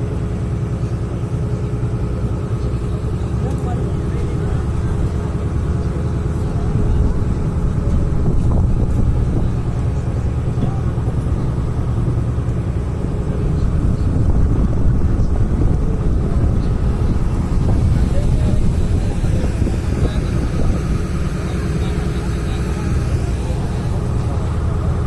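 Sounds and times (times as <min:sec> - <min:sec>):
ferry engine droning: 0:00.0 - 0:25.0.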